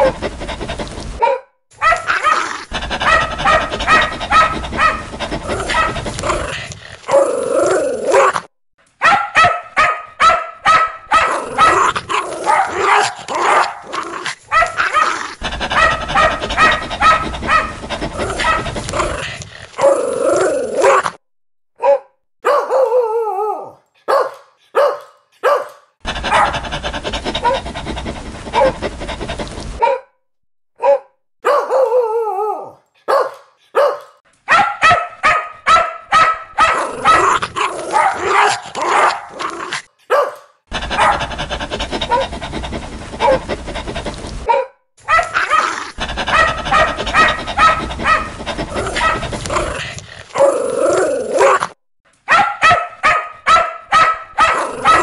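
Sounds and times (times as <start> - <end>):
dogs barking aggressively: 0.0 - 21.2, 24.0 - 30.0, 33.0 - 55.0.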